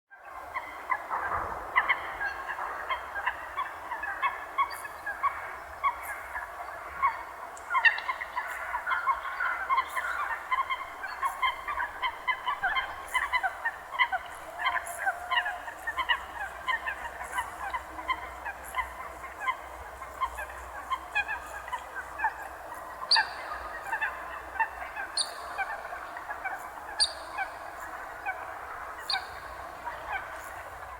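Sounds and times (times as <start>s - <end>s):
flock of waterbirds calling: 0.2s - 30.9s.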